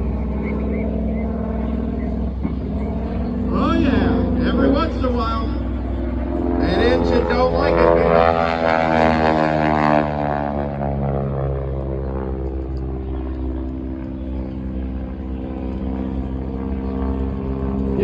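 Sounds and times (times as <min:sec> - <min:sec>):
propeller airplane passing by: 0:00.0 - 0:18.0.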